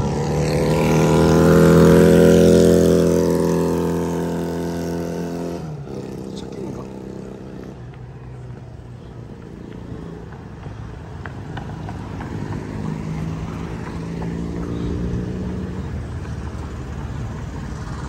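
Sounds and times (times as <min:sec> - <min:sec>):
traffic noise: 0:00.0 - 0:18.0
vehicle engine hum: 0:00.0 - 0:18.0.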